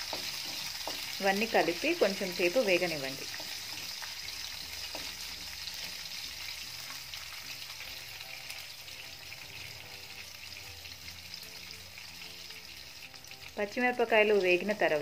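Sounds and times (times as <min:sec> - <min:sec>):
chillies sizzling in hot oil: 0:00.0 - 0:15.0.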